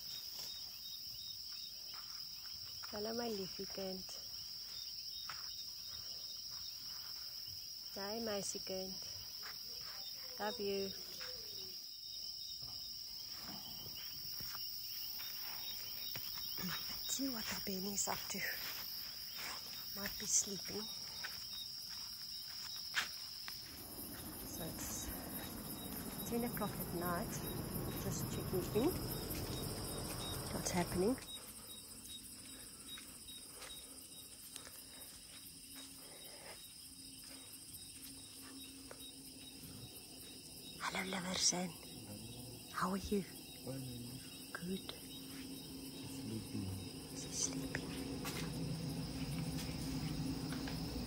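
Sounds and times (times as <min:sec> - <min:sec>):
night insects chirping: 0:00.0 - 0:51.0.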